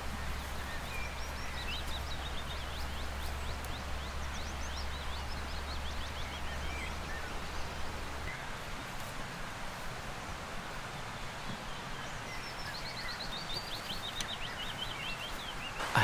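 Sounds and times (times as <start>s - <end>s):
river water rushing: 0.0s - 16.0s
songbird singing: 0.0s - 16.0s.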